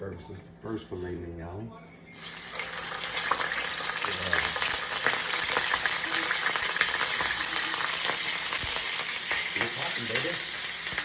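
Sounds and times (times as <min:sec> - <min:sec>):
meat sizzling in a frying pan: 0:02.1 - 0:11.0.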